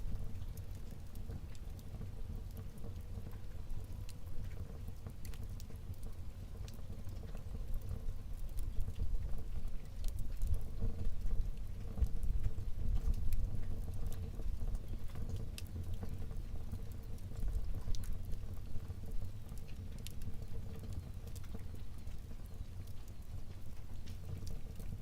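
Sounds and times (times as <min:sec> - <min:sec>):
fire flames rumbling: 0:00.0 - 0:25.0
wood fire crackling: 0:00.0 - 0:25.0.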